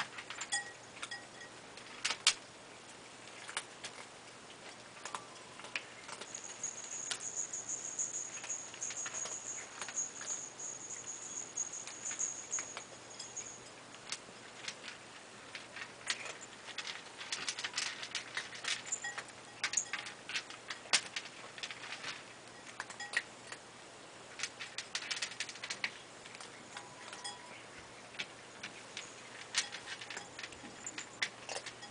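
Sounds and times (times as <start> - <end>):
cats chewing and licking: 0.0 - 31.9.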